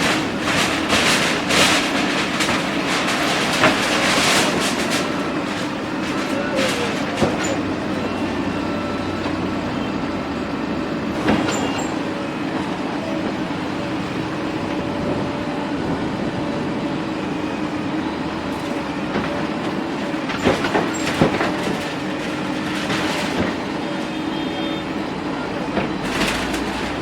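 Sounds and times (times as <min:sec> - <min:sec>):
heavy machine running: 0:00.0 - 0:27.0.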